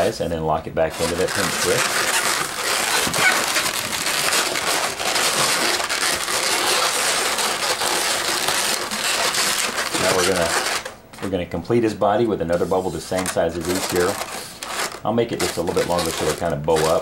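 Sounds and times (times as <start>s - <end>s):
balloons squeaking and rubbing: 0.0s - 17.0s.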